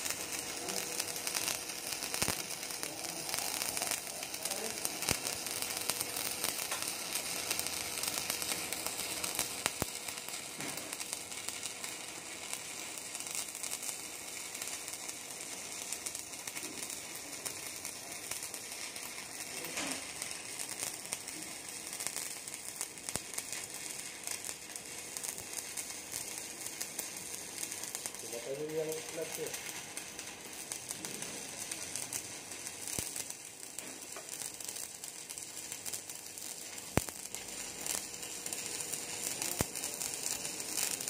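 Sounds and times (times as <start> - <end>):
welding arc crackling: 0.0 - 41.0.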